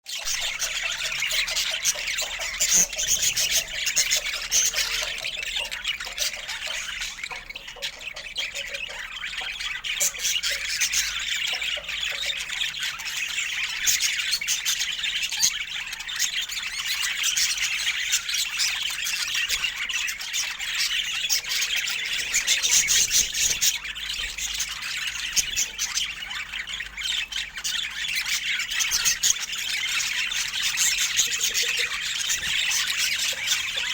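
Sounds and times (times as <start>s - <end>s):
budgerigars chattering: 0.1s - 33.9s.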